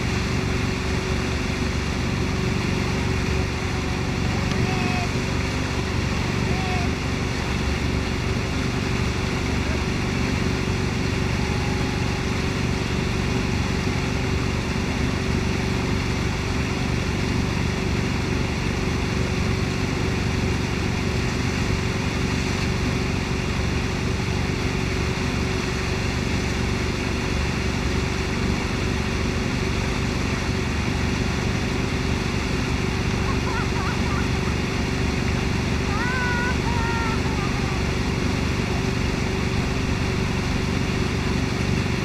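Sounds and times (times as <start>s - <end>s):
boat engine running: 0.0s - 42.0s
wake water rushing: 0.0s - 42.0s.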